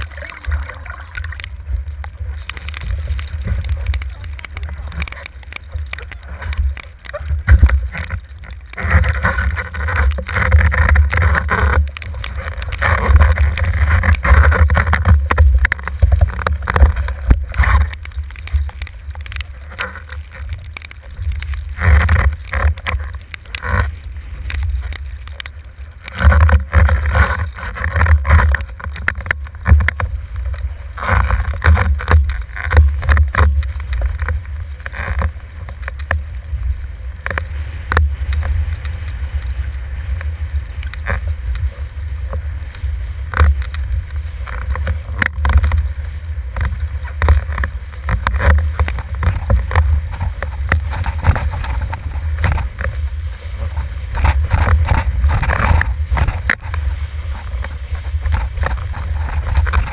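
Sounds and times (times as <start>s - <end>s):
rushing water and spray: 0.0s - 59.9s
wind buffeting microphone: 0.0s - 59.9s.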